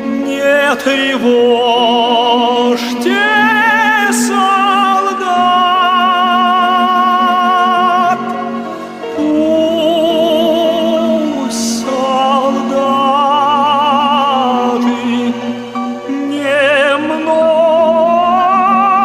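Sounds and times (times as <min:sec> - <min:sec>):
operatic singing: 0:00.0 - 0:19.0
slow musical accompaniment: 0:00.0 - 0:19.0.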